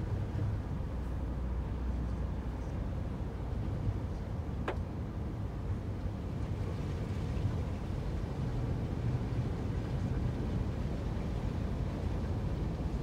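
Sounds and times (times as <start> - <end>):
car driving through water: 0.0 - 13.0.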